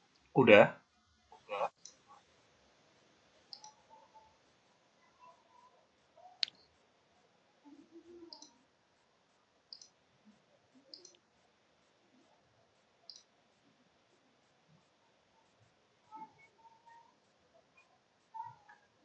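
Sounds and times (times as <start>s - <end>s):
faint microphone hiss: 0.0s - 19.0s.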